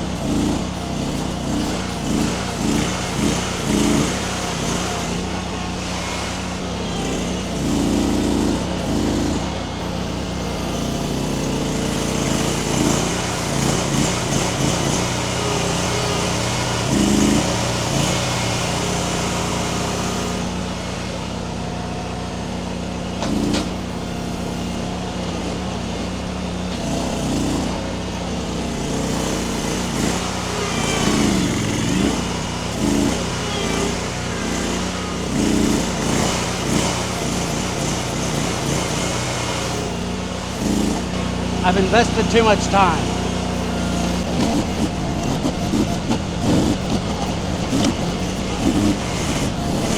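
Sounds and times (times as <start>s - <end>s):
skid steer engine running: 0.0s - 49.9s.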